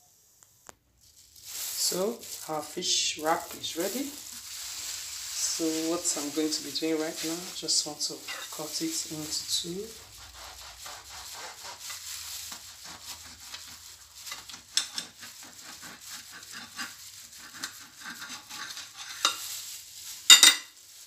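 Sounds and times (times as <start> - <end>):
knife sawing through toasted wrap: 1.8 - 19.8.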